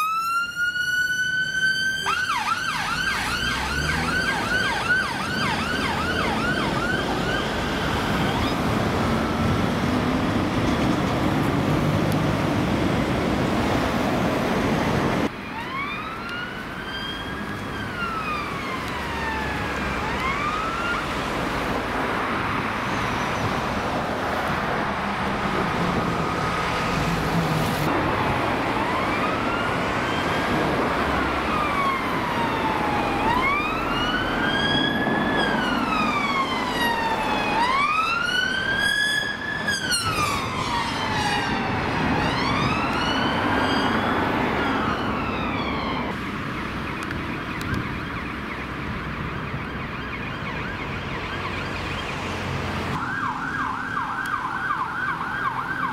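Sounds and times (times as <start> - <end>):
ambulance siren yelp: 0.0 - 10.0, 15.2 - 21.8, 25.6 - 27.0, 27.8 - 55.9
police siren wail: 0.0 - 10.7, 14.6 - 23.0, 24.1 - 55.9
road traffic noise: 0.0 - 55.9.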